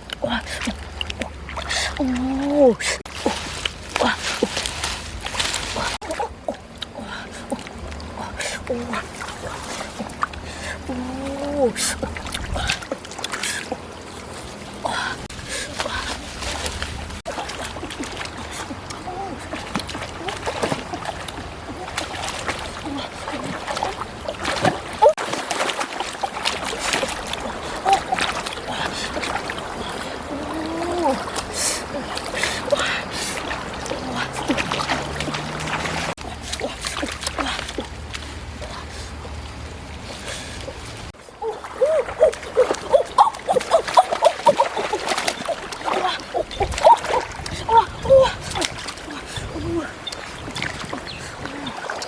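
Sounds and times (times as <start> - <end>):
water splashing: 0.0 - 52.0
faint voices: 5.7 - 25.2, 26.6 - 52.0.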